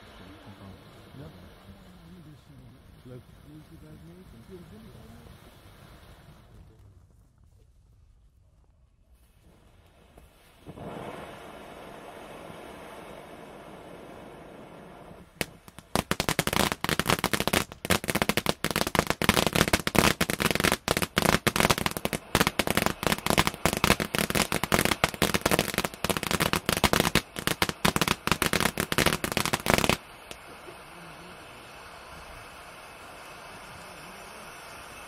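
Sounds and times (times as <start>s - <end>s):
firework fountain hissing: 0.0s - 7.1s, 9.1s - 35.0s
firework crackles and pops: 0.0s - 35.0s.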